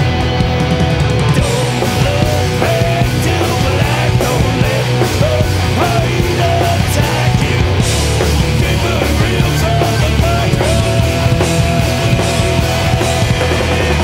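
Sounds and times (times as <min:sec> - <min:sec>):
bass guitar: 0:00.0 - 0:14.0
distorted electric guitars: 0:00.0 - 0:14.0
drum kit: 0:00.0 - 0:14.0
harsh vocals: 0:01.1 - 0:14.0.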